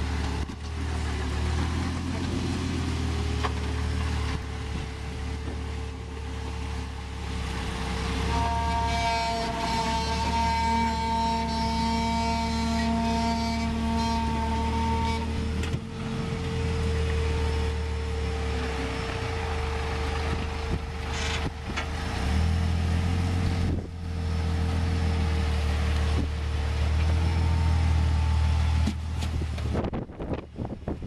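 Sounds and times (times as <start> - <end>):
engine rumbling at low revs: 0.0 - 31.0.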